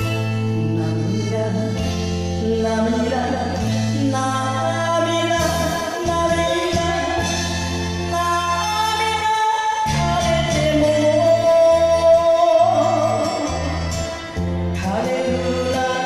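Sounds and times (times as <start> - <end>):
karaoke backing track: 0.0 - 16.0
woman singing a ballad: 0.0 - 16.0.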